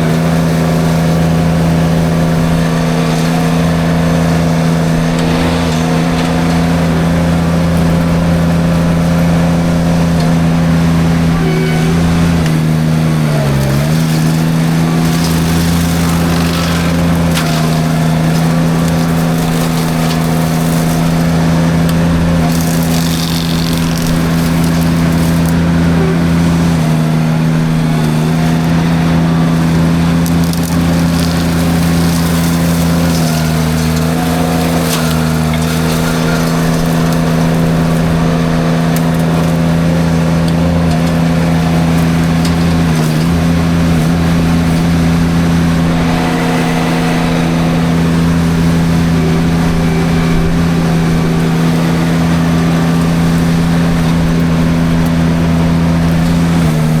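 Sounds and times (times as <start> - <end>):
mulcher grinding brush: 0.0 - 57.0
skid steer engine running: 0.0 - 57.0.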